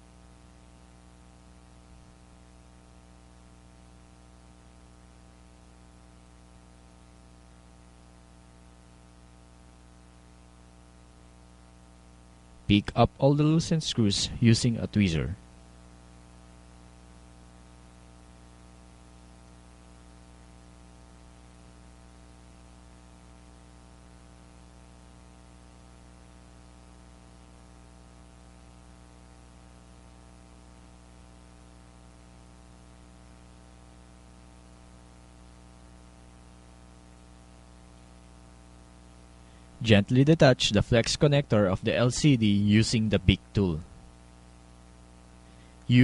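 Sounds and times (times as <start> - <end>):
buzzy electrical hum: 0.0 - 46.0
constant hiss: 0.0 - 46.0.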